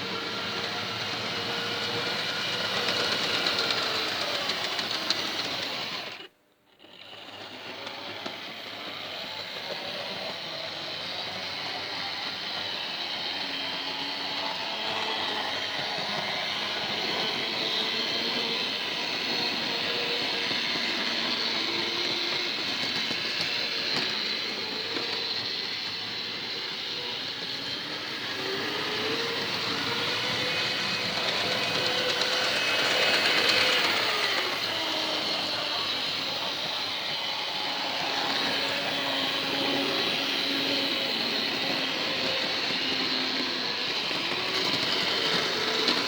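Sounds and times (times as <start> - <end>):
model train wheels rumbling: 0.0 - 46.0
small electric motor whining: 0.0 - 46.0.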